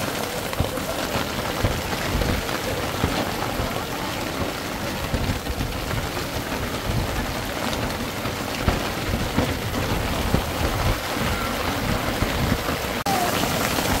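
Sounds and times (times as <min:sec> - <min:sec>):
heavy rain: 0:00.0 - 0:14.0
wind rumble: 0:00.0 - 0:14.0.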